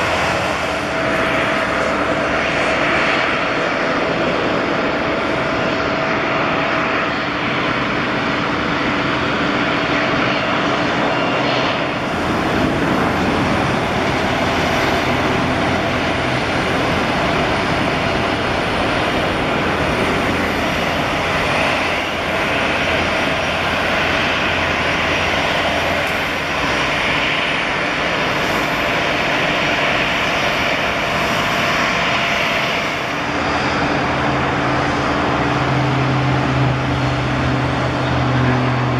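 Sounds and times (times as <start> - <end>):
airliner engines running: 0.0 - 38.9.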